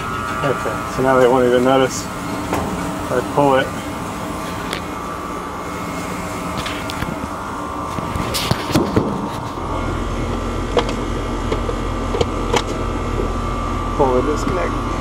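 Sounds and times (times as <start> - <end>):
air conditioning hum: 0.0 - 15.0
deeper low hum: 0.0 - 15.0.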